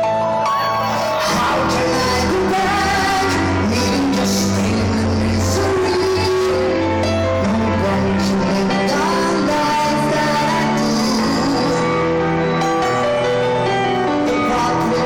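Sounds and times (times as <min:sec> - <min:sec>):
rock band with singing: 0:00.2 - 0:15.0.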